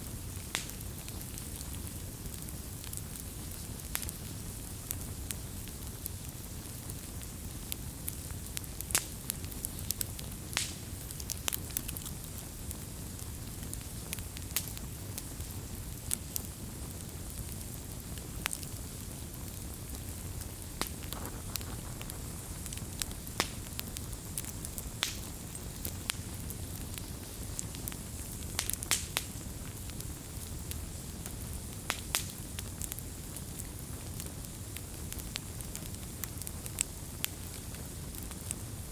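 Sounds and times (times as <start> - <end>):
campfire flames rumbling: 0.0 - 38.9
fire crackling and popping: 0.0 - 38.9.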